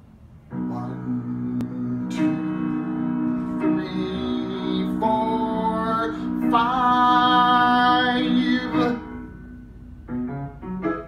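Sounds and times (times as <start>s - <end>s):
musical accompaniment: 0.5s - 11.0s.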